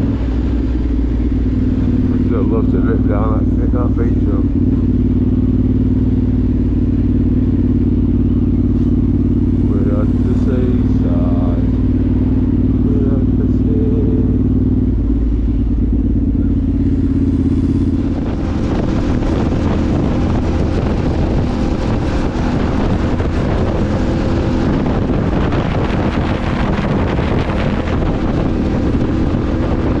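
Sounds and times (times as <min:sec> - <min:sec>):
rushing wind and road noise: 0:00.0 - 0:30.0
vehicle engine running: 0:00.0 - 0:30.0.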